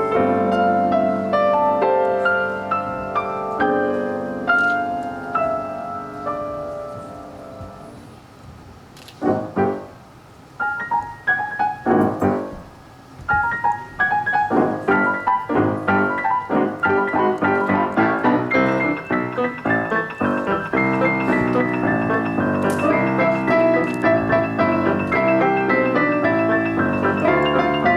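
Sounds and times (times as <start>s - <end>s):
piano playing: 0.0s - 8.4s, 9.2s - 27.9s.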